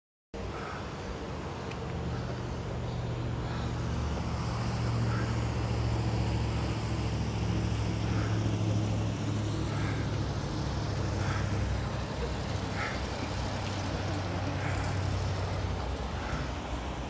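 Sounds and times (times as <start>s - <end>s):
traffic drone: 0.4s - 17.0s.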